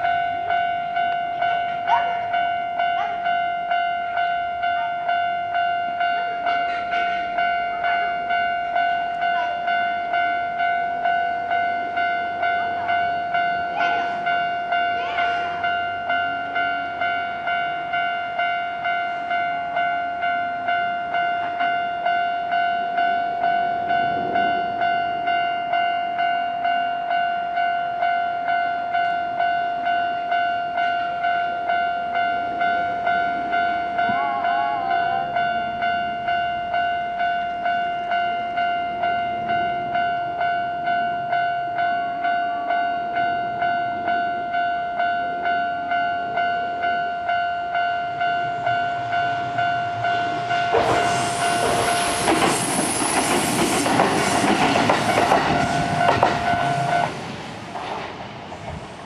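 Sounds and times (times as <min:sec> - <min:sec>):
level crossing warning bell: 0:00.0 - 0:57.4.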